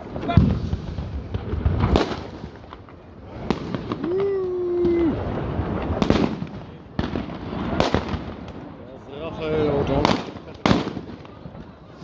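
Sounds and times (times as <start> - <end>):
firecrackers crackling: 0.0 - 12.0
firework bangs: 0.0 - 12.0.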